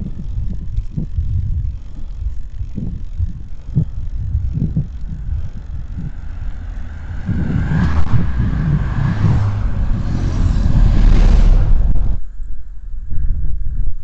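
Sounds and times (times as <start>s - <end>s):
motor vehicle passing: 0.0s - 12.2s
wind buffeting microphone: 0.0s - 14.0s.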